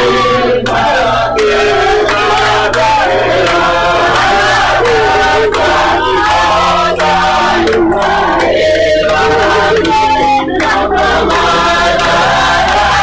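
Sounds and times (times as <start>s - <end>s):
group singing together: 0.0s - 13.0s.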